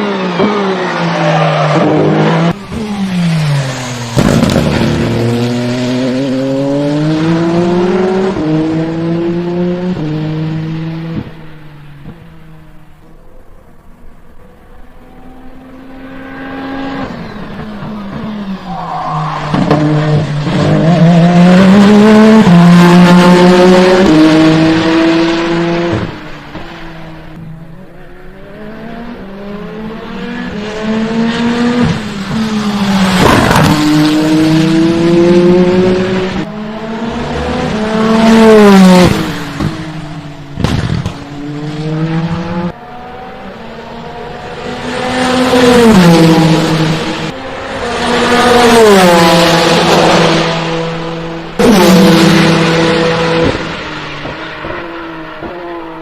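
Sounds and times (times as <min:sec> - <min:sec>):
racing car passing by: 0:00.0 - 0:12.8, 0:14.8 - 0:56.0.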